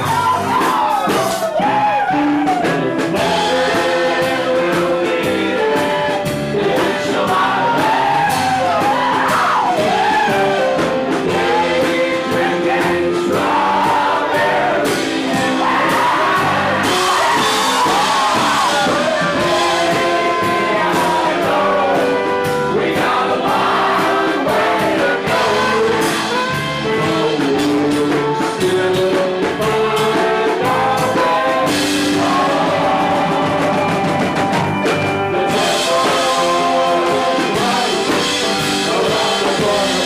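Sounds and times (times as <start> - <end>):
drums striking steadily: 0.0 - 40.0
live band music: 0.0 - 40.0
people singing and shouting: 0.0 - 40.0.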